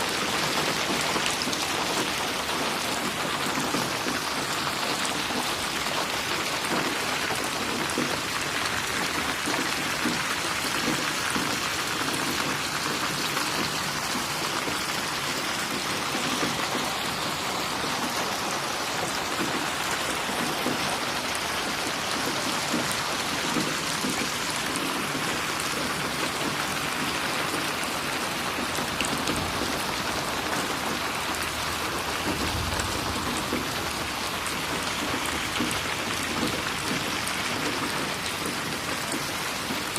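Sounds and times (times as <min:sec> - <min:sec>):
rain splashing on a surface: 0:00.0 - 0:39.9.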